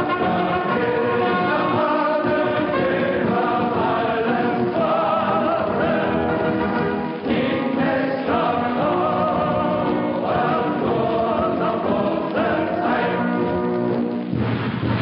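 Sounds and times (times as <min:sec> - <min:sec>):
choir singing slow chords: 0:00.0 - 0:13.6.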